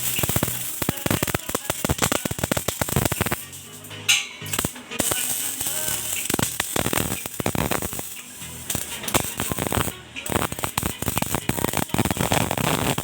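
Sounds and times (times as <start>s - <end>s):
arc welding crackling: 0.0s - 13.0s.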